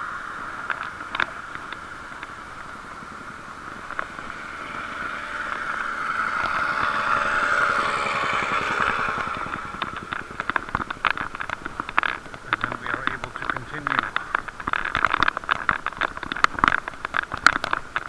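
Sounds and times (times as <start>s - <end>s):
traffic passing: 0.0s - 18.0s.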